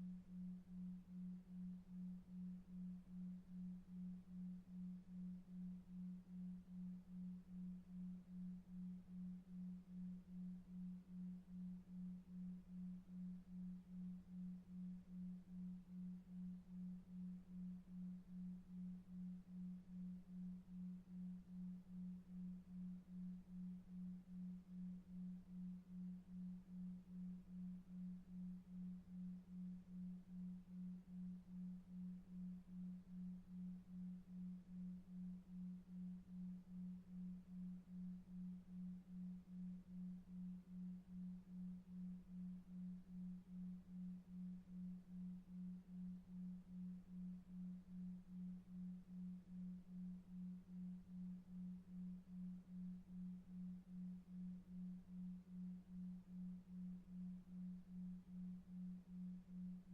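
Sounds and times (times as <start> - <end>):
low pulsing sine tone: 0.0 - 59.9.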